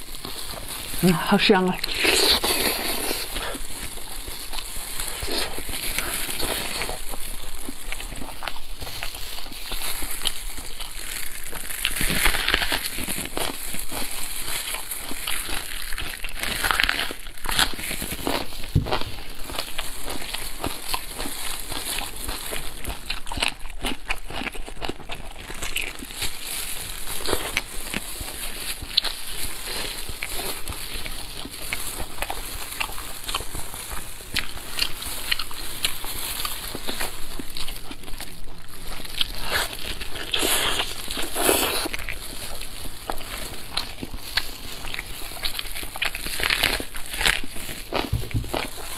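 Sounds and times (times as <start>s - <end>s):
person chewing wetly: 0.0s - 48.9s
hands tearing meat: 1.8s - 48.9s.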